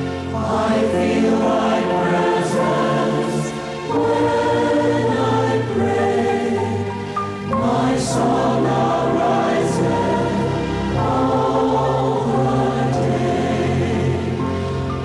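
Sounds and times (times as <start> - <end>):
congregation singing: 0.0 - 15.0.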